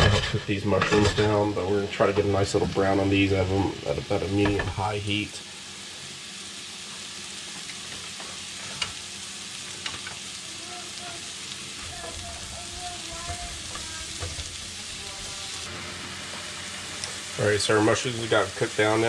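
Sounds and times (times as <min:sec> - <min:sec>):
mushrooms sizzling in pan: 0:00.0 - 0:19.0.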